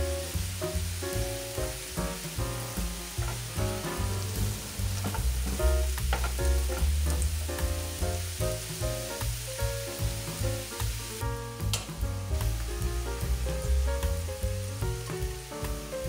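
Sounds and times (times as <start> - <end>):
background music with bass: 0.0 - 16.0
potatoes sizzling in a frying pan: 0.0 - 16.0.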